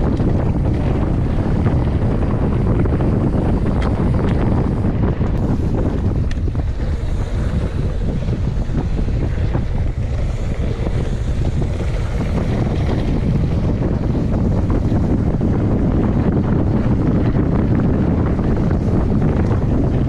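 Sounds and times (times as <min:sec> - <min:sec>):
bike rattles and knocks: 0:00.0 - 0:20.0
wind buffeting microphone: 0:00.0 - 0:20.0.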